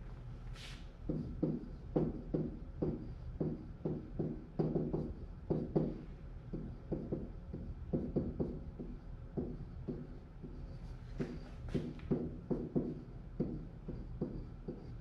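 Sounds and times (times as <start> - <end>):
pen tapping on whiteboard: 1.1 - 10.6, 11.2 - 14.9.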